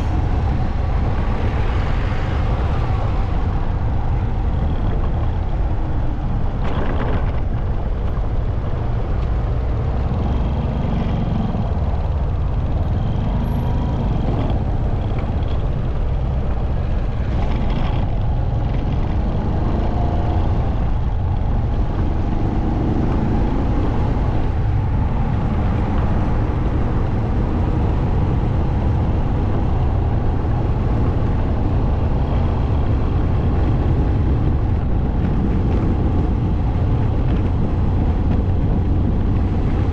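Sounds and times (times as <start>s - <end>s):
motorcycle engine rumble: 0.0s - 39.9s
road and wind noise: 0.0s - 39.9s.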